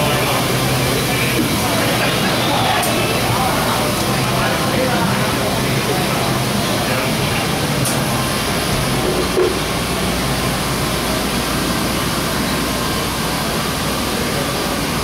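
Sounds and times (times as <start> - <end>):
fountain water hissing: 0.0 - 15.0.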